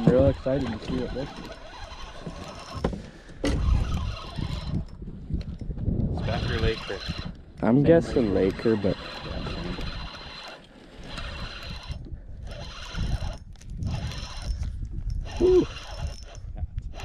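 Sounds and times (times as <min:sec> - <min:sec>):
fishing reel gears whirring: 0:00.0 - 0:17.0.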